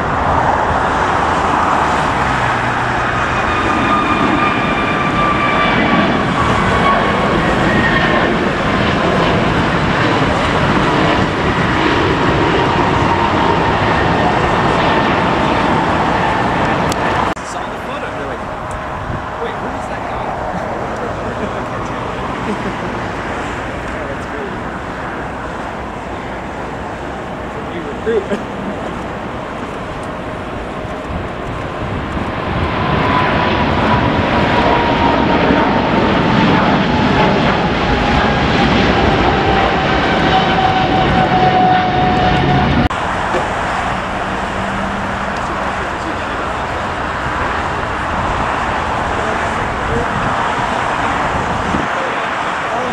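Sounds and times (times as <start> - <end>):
faint engine whine: 0.0 - 52.9
jet engines roaring: 0.0 - 52.9.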